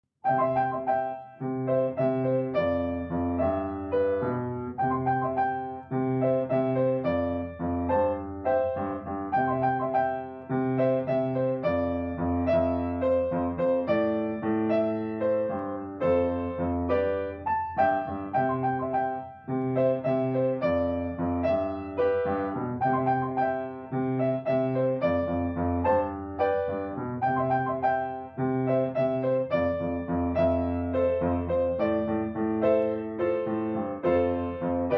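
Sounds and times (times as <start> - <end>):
instrumental piano music: 0.2 - 34.9.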